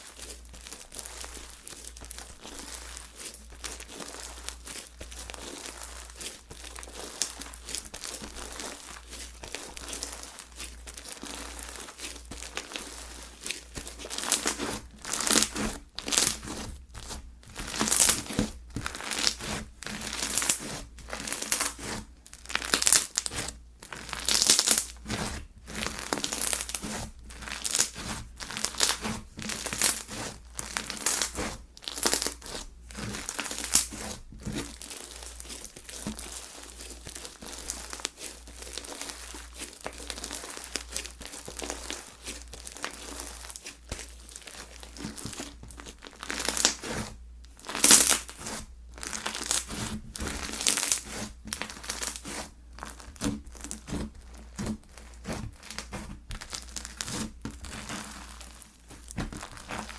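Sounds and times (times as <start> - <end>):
crackling and popping slime: 0.0 - 59.9
slime squished by hand: 0.0 - 59.9.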